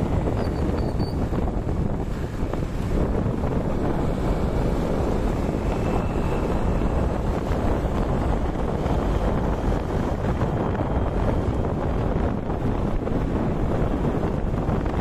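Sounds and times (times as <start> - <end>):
low road rumble: 0.0 - 15.0
wind rushing over microphone: 0.0 - 15.0.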